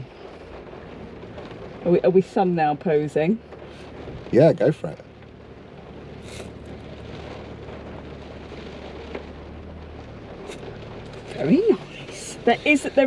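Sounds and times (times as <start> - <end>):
low steady hum: 0.0 - 13.0
rain on a car roof: 0.0 - 13.0.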